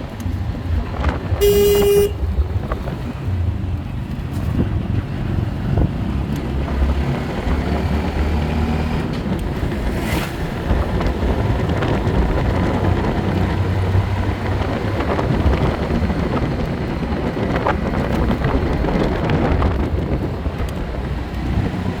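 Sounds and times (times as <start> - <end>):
vehicle engine humming: 0.0 - 22.0
wind buffeting microphone: 0.0 - 22.0.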